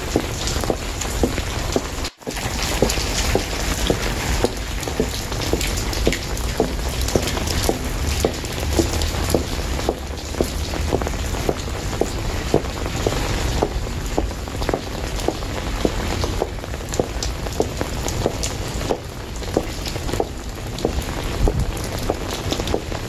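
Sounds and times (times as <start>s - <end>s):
footsteps walking: 0.0s - 23.0s
steady rain falling: 0.0s - 23.0s.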